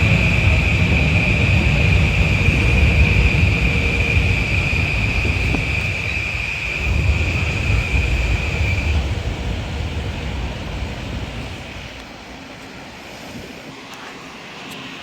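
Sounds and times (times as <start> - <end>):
wind buffeting microphone: 0.0 - 13.8
high whine: 0.0 - 15.0.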